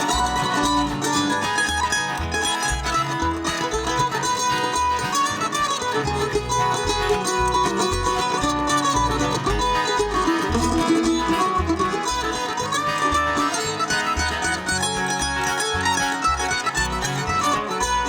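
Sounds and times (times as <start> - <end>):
bluegrass band playing: 0.0 - 18.0.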